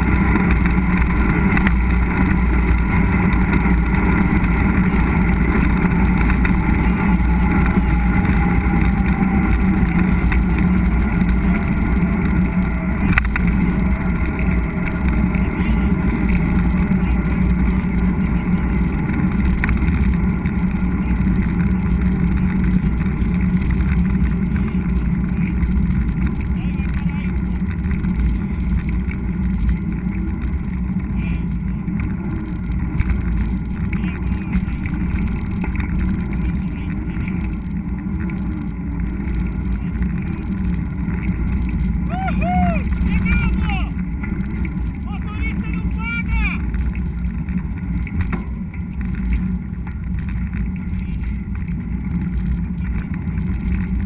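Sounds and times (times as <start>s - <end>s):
wind noise: 0.0s - 46.0s
mountain bike riding rumble: 0.0s - 54.0s.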